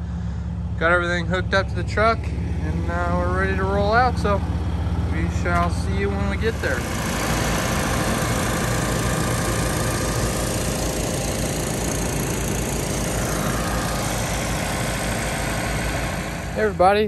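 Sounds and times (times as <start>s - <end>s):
sawmill engine running: 0.0s - 17.0s.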